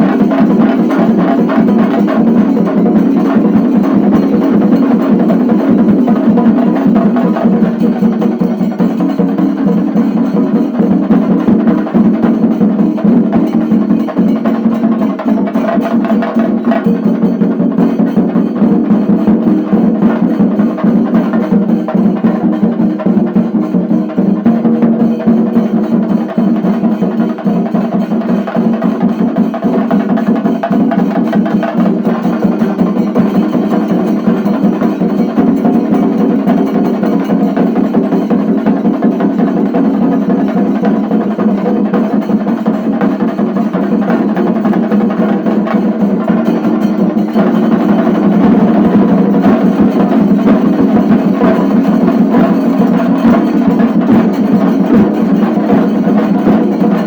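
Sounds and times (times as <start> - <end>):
drums beaten fast with sticks: 0.0 - 57.0
hand cymbals: 0.0 - 57.0.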